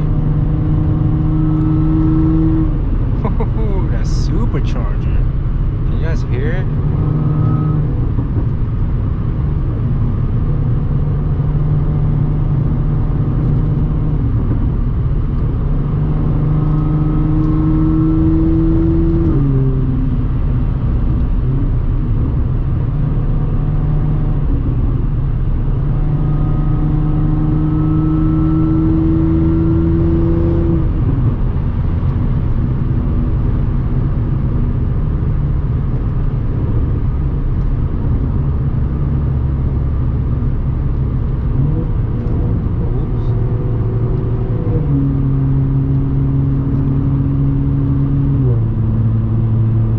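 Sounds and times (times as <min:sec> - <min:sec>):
car engine droning: 0:00.0 - 0:49.9.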